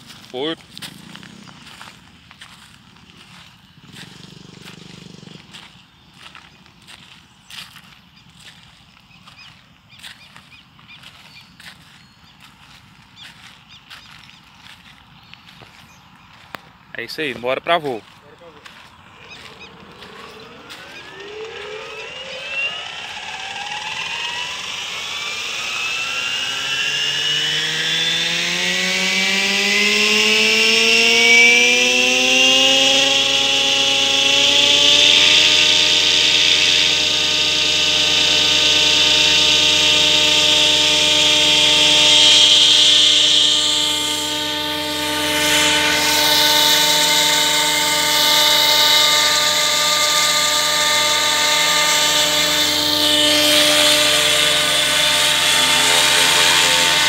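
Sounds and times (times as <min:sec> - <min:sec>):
rc helicopter rotor whine: 0:00.0 - 0:57.0.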